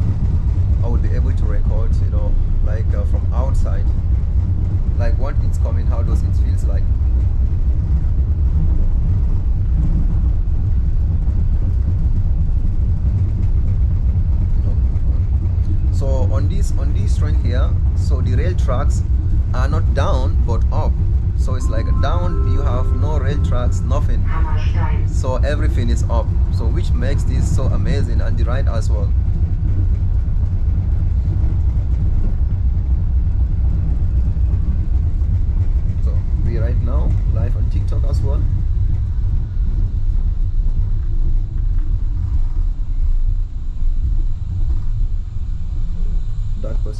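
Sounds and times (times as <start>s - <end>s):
suspension railway car rumbling: 0.0s - 46.9s.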